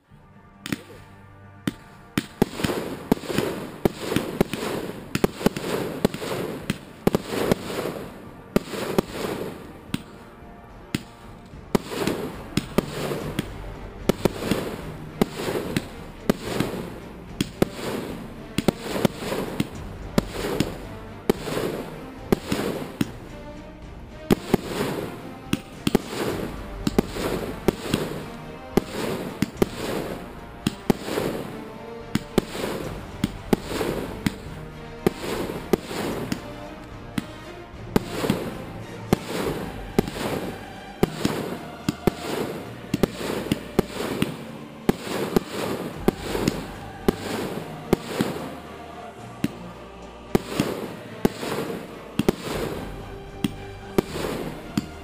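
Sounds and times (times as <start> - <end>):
fireworks bangs: 1.6 - 23.3, 24.3 - 49.7, 50.3 - 55.0.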